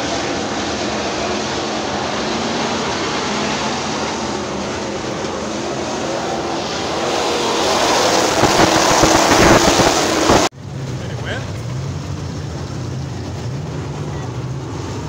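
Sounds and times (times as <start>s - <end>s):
racing car engines and tyres: 0.0s - 15.0s.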